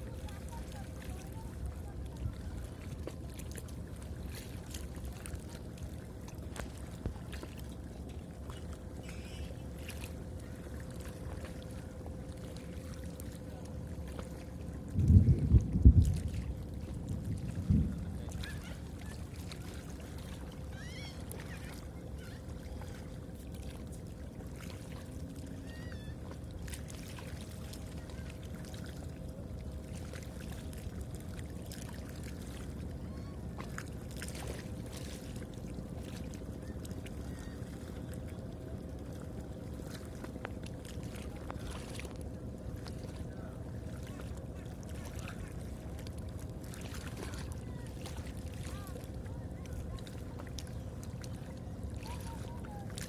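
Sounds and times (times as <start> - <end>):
river water running: 0.0 - 53.0.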